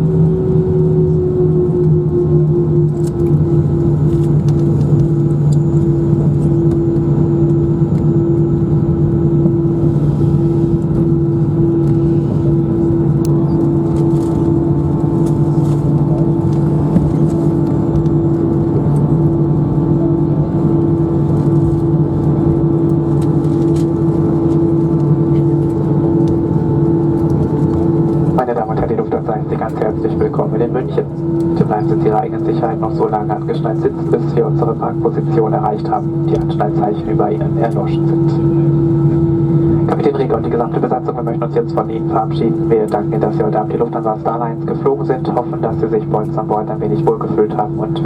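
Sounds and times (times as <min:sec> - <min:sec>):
jet engines droning in cabin: 0:00.0 - 0:48.0.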